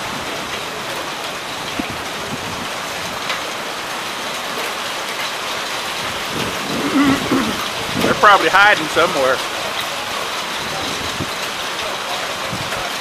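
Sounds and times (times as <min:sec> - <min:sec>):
heavy rain pouring: 0:00.0 - 0:13.0
raindrops ticking on surfaces: 0:00.0 - 0:13.0.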